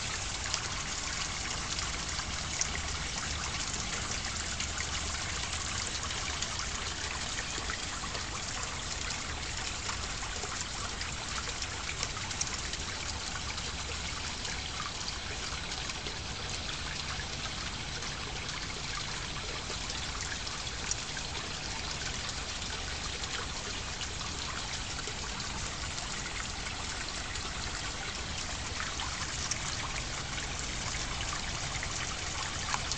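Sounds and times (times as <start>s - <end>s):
water trickling: 0.0s - 32.9s.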